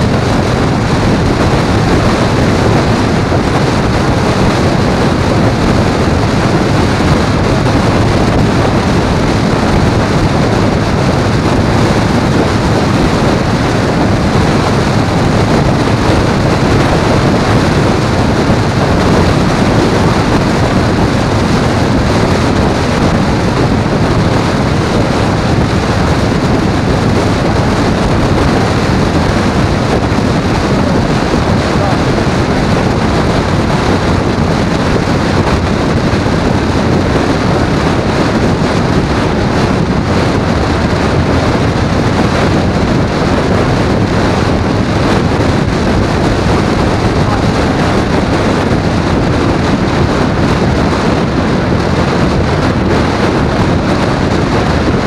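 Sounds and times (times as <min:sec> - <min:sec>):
motorcycle engine and road drone: 0:00.0 - 0:55.0
wind rushing over microphone: 0:00.0 - 0:55.0.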